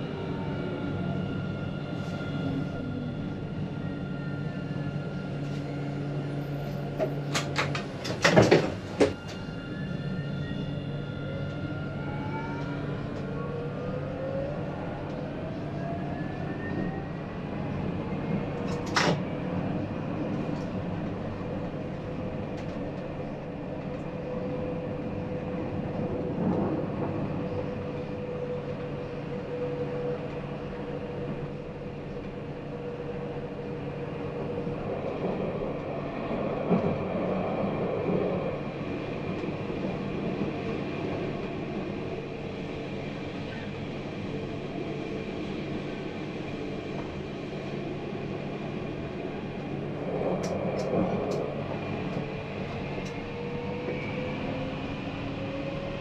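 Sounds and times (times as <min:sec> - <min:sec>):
tram motor whine: 0:00.0 - 0:56.0.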